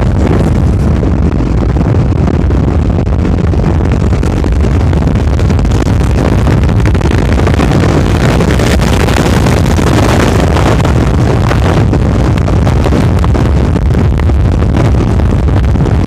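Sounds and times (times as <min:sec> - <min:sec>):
moving vehicle running noise: 0:00.0 - 0:16.0
wind rumble on microphone: 0:00.0 - 0:16.0.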